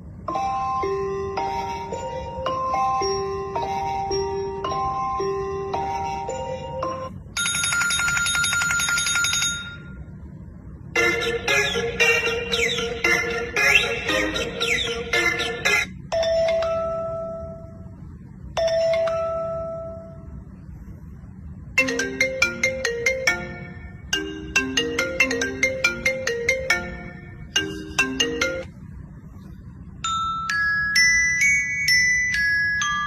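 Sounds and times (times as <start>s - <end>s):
phone ringtone melodies: 0.2s - 10.2s, 10.9s - 20.4s, 21.7s - 28.8s, 30.0s - 33.0s
marimba-like ringtone melody: 0.3s - 10.0s, 11.0s - 17.9s, 18.5s - 20.3s, 21.8s - 28.8s, 30.0s - 33.0s
bell-like melody: 0.3s - 10.2s, 11.0s - 20.4s, 21.8s - 28.8s, 30.0s - 33.0s.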